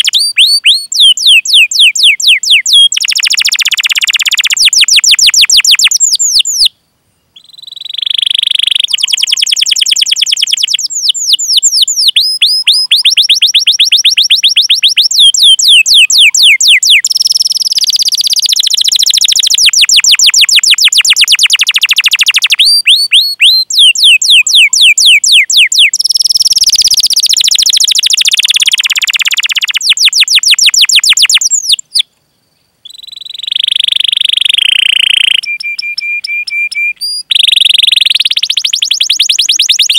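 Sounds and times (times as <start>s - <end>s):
canary singing trills: 0.0s - 32.1s, 32.8s - 39.9s.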